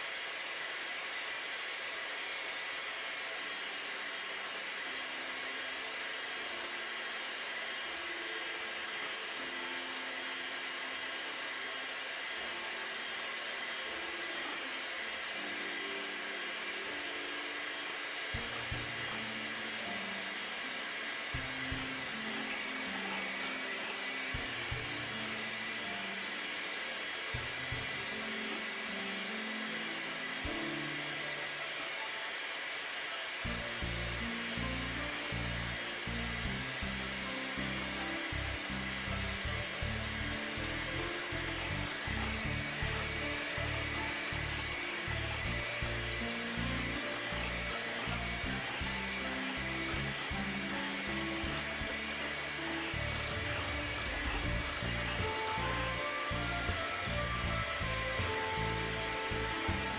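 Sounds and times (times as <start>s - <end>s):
electric hand mixer running: 0.0s - 59.9s
soft background music: 1.5s - 59.9s.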